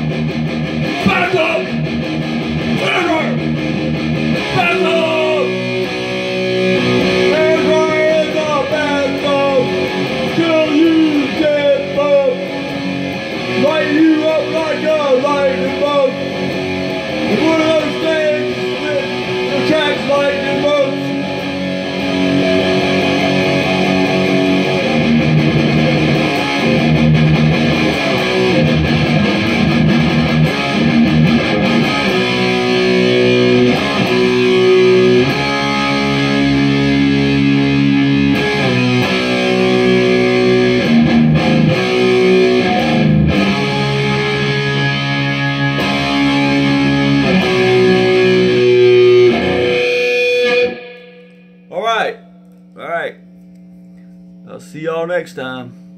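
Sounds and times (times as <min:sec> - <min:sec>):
electric guitar strumming chords: 0:00.0 - 0:54.7.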